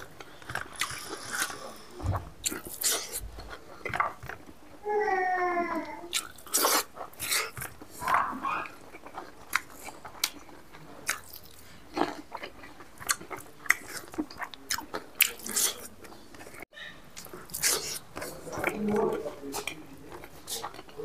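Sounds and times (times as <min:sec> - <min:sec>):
person chewing: 0:00.0 - 0:04.8, 0:06.1 - 0:21.0.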